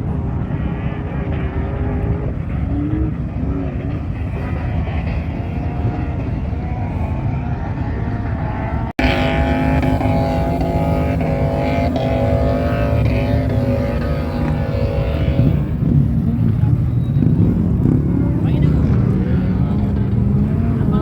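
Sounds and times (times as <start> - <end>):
off-road vehicle engines revving: 0.0 - 21.0.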